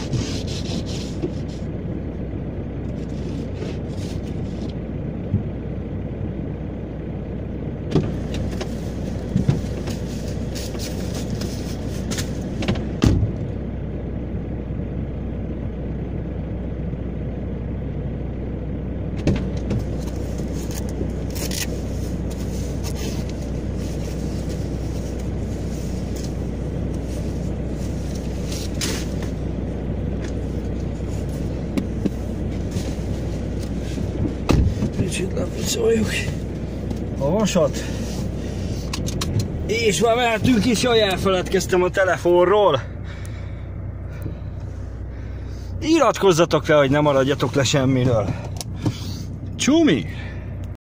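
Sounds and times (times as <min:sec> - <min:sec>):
diesel engine idling: 0:00.0 - 0:50.8.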